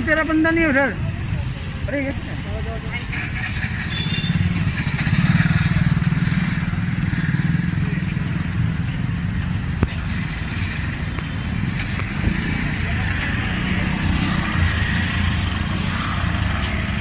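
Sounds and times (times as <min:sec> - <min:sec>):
street traffic: 0:00.0 - 0:17.0
motorcycle engine running: 0:03.0 - 0:17.0.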